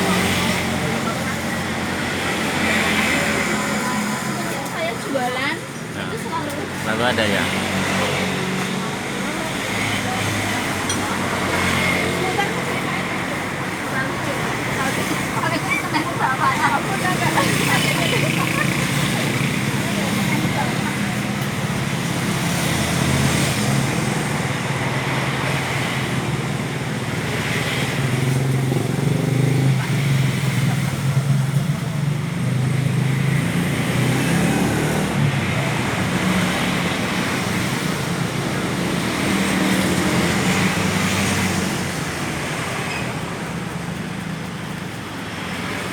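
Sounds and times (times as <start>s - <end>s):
road traffic noise: 0.0s - 45.9s.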